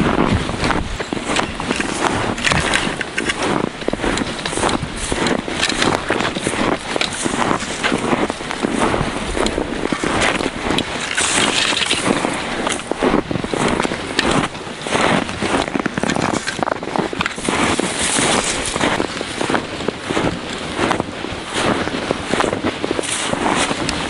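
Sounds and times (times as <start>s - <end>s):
clothing and gear rustling: 0.0s - 24.0s
footsteps crunching in snow: 0.0s - 24.0s.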